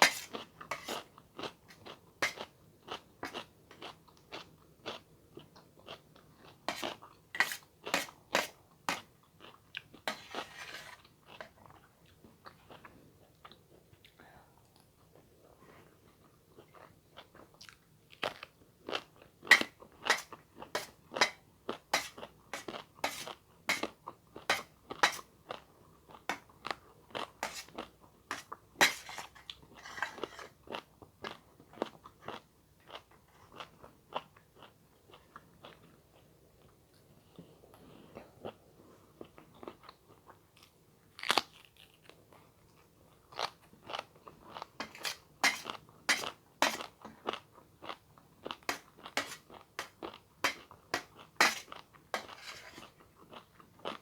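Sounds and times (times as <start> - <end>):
person chewing crunchy food: 0.0 - 13.8, 16.1 - 36.7, 39.2 - 54.0.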